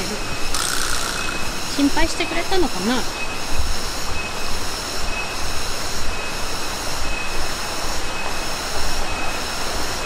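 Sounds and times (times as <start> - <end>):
cicadas chorus whining: 0.0 - 10.0.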